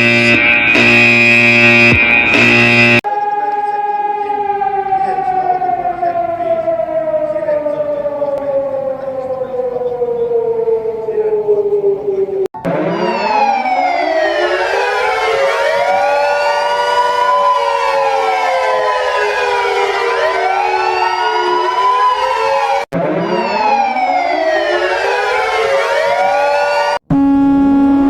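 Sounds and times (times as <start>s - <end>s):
sirens wailing: 0.0s - 28.0s
steady alarm tone: 0.0s - 28.0s.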